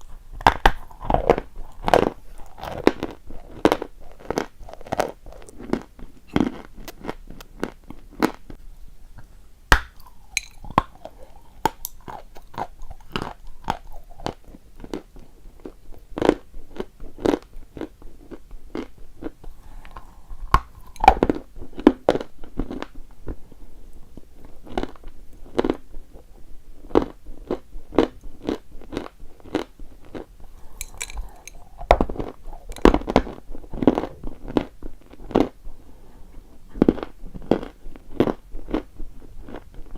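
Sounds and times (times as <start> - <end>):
chalk crunching when chewed: 0.0 - 8.6, 9.8 - 23.0, 26.9 - 35.6, 36.8 - 39.9.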